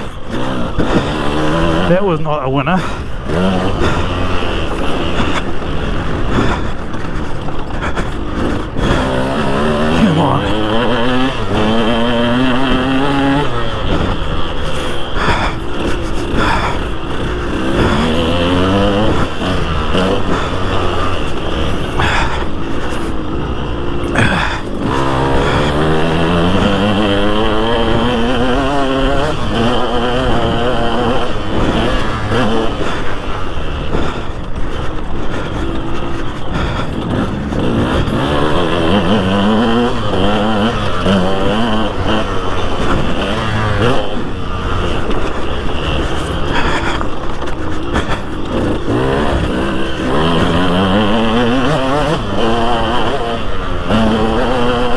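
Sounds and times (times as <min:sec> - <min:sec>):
motocross engine revving: 0:00.0 - 0:54.9.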